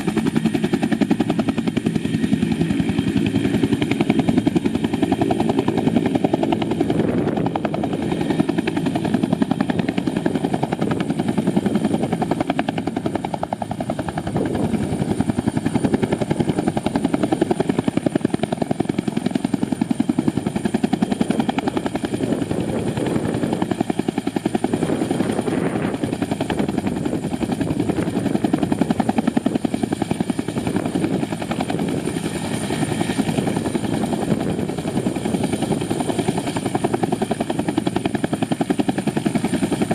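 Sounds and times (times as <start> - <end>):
helicopter engine whine: 0.0 - 39.9
helicopter rotor chopping: 0.0 - 39.9.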